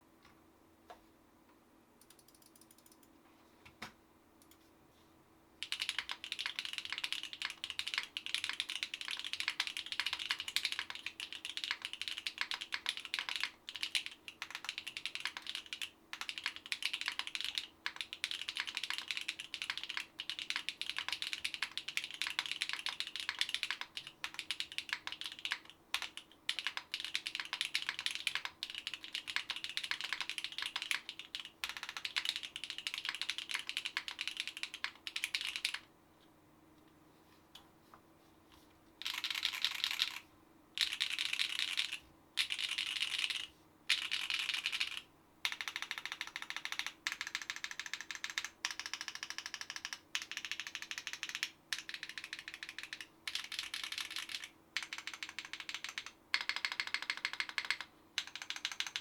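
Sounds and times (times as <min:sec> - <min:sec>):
mechanical keyboard typing: 0:05.6 - 0:35.9, 0:39.0 - 0:40.2, 0:40.8 - 0:59.0.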